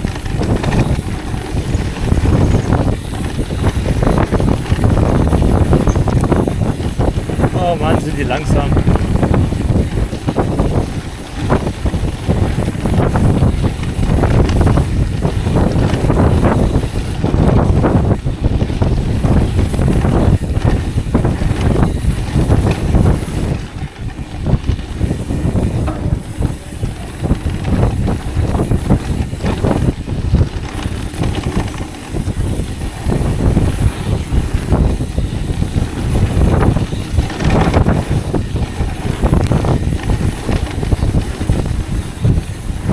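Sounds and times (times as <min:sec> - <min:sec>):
bike knocks and rattles: 0:00.0 - 0:42.9
tyres rumbling over dirt: 0:00.0 - 0:42.9
wind buffeting microphone: 0:00.0 - 0:42.9.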